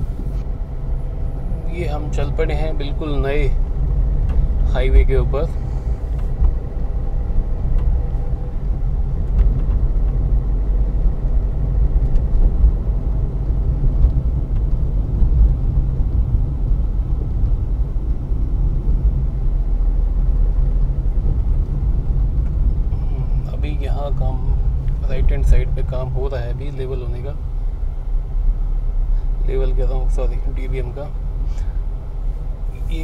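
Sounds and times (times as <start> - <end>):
car engine: 0.0 - 33.0
tyre and road noise: 0.0 - 33.0.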